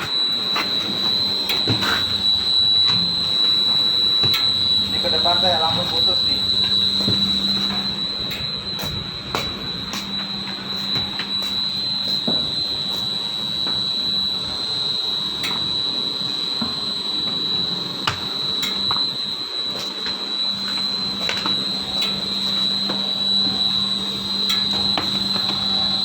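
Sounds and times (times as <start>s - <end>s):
machine whining: 0.0s - 26.0s.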